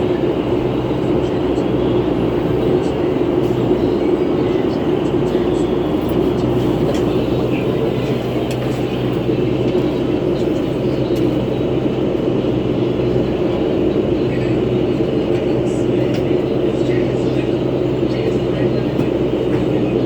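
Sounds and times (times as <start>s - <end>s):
bus engine and road drone: 0.0s - 20.0s.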